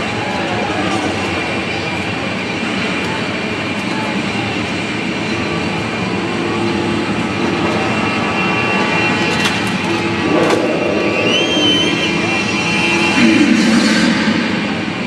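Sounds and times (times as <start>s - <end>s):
big engine running: 0.0s - 15.0s.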